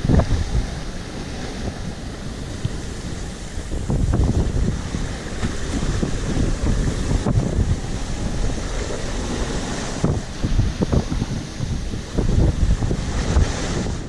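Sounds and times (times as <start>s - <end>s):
sea rushing against sailboat: 0.0s - 14.0s
wind buffeting microphone: 0.0s - 14.0s.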